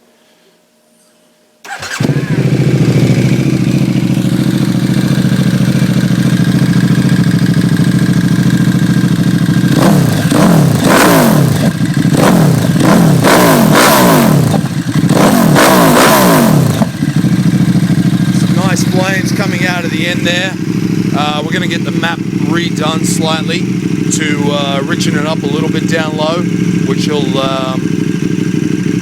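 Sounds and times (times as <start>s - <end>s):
motorcycle engine idling: 1.6s - 29.0s
motorcycle throttle blips: 1.6s - 29.0s.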